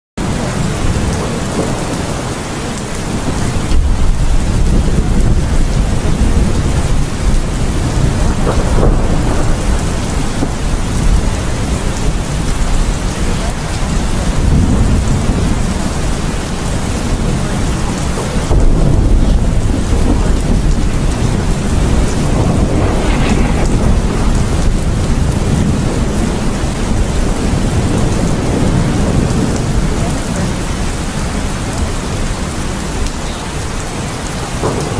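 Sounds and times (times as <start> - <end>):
heavy rain hissing: 0.2 - 34.9
thunder rumbling: 0.2 - 34.9.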